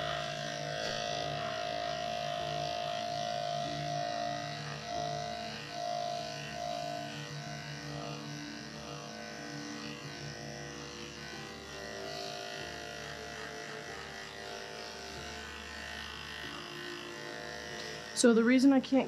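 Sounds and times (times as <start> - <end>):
electric hair clipper humming: 0.0 - 19.0.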